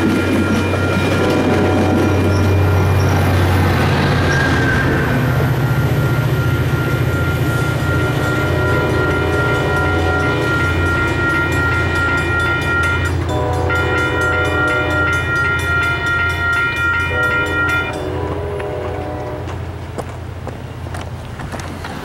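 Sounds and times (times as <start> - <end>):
train rumble: 0.0 - 22.0
train air horn chords: 0.2 - 19.7.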